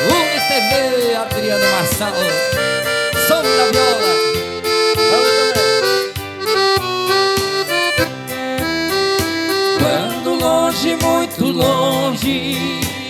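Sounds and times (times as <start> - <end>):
accordion playing held chords: 0.0 - 13.0
steady beat: 0.0 - 13.0.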